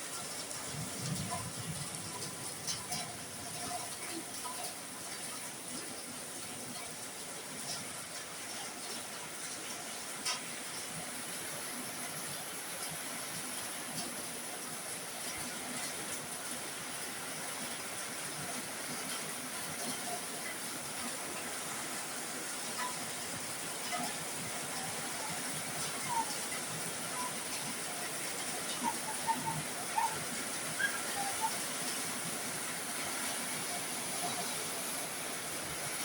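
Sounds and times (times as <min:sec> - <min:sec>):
heavy rain on a roof: 0:00.0 - 0:36.0.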